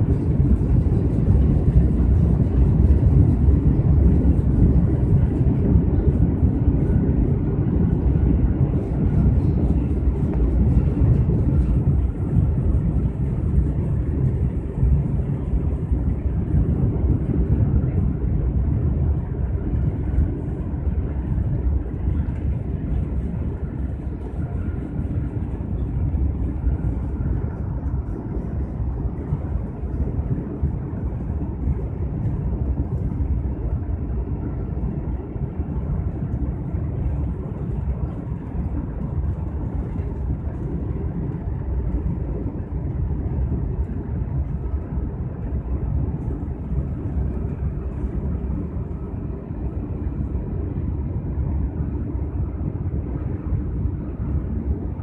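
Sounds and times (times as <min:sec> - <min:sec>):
train rumbling inside cabin: 0:00.0 - 0:55.0.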